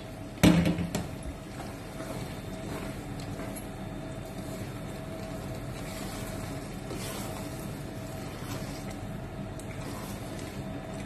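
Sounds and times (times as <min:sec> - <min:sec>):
spatula scraping a pot: 0:01.3 - 0:11.0.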